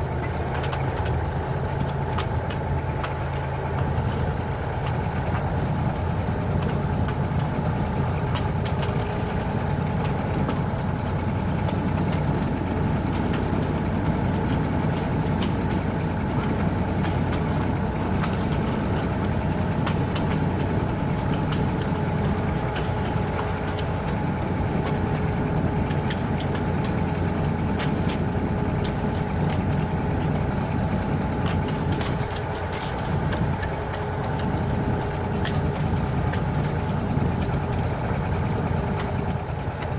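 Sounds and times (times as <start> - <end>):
diesel train engine running: 0.0 - 39.9
wheels clicking on track: 0.0 - 39.9.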